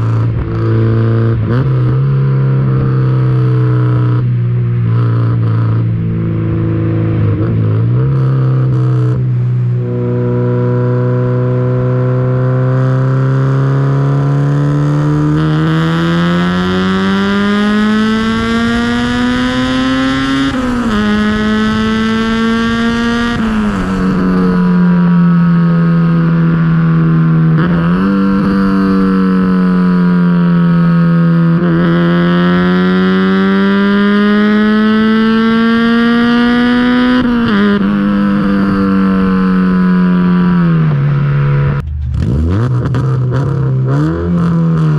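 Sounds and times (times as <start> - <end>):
car engine revving through gears: 4.8 - 44.9.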